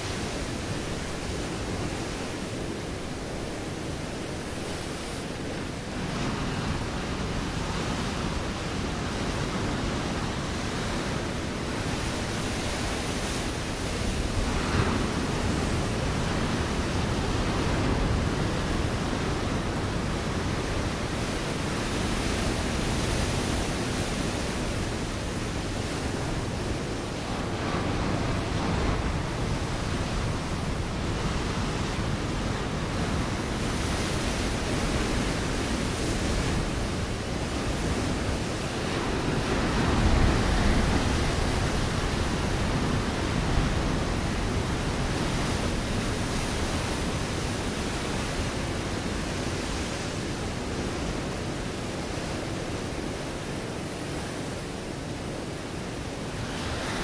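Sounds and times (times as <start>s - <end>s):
ocean waves breaking on rocks: 0.0s - 57.0s.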